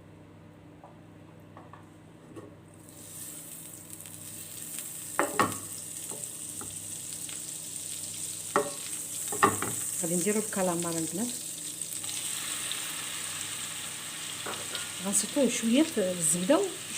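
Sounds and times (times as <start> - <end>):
butter sizzling in a frying pan: 2.8 - 16.9.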